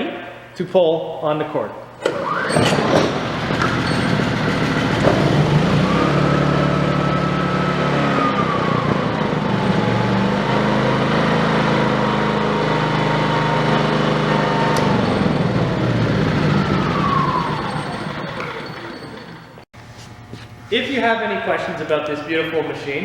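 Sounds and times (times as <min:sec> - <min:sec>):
generator engine whine: 0:02.0 - 0:23.0.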